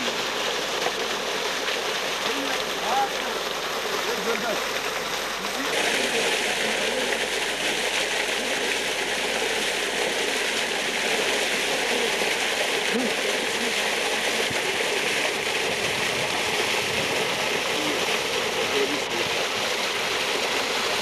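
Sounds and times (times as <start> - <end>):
water gushing and splashing: 0.0 - 21.0.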